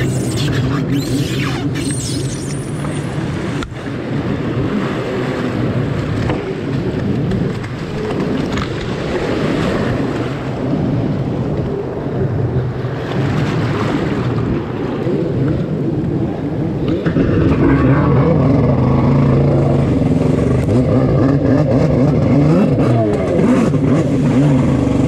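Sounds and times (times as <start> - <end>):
jet ski engine running: 0.0 - 25.0
waves breaking: 0.0 - 25.0.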